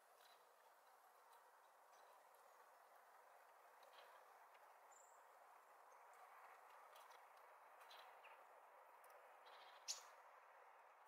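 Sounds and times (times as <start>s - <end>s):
small birds chirping: 0.0s - 10.7s.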